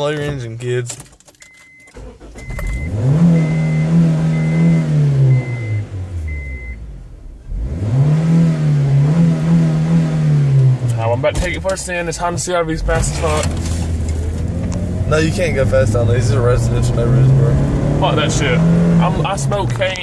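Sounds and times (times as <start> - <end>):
car engine revving: 2.0 - 20.0.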